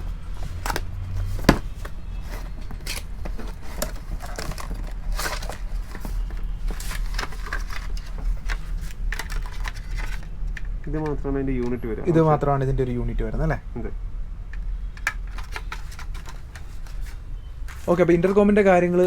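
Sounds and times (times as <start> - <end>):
packaging clicks and rustles: 0.0 - 11.8, 14.5 - 19.0
steady low hum: 0.0 - 19.0.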